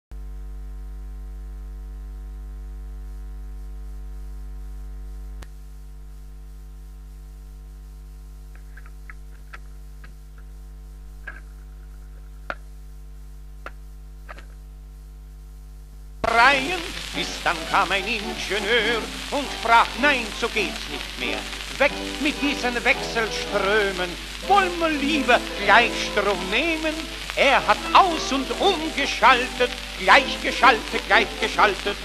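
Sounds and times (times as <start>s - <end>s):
electrical mains hum: 0.1s - 32.0s.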